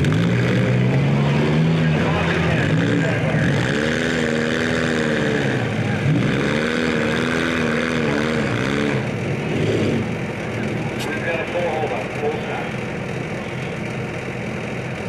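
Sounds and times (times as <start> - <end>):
car engine revving: 0.0 - 15.0
other engines running: 0.0 - 15.0.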